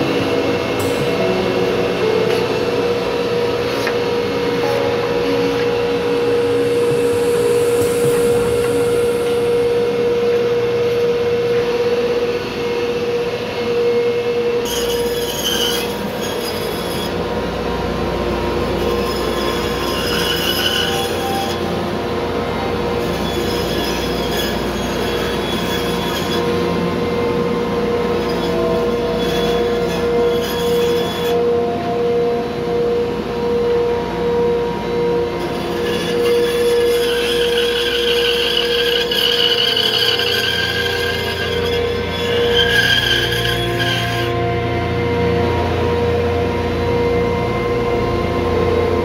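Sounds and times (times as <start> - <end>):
power tool whining: 0.0 - 49.0.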